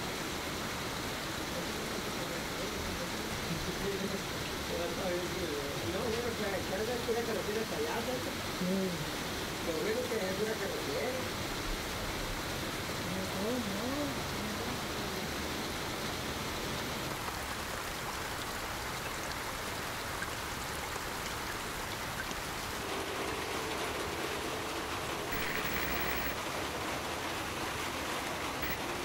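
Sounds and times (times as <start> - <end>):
rain splashing into puddles: 0.0 - 29.0.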